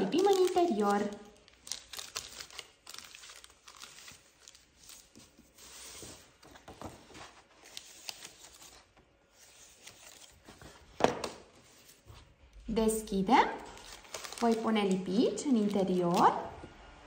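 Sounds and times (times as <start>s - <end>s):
paper rustling and crinkling: 0.0s - 12.4s, 13.7s - 16.3s.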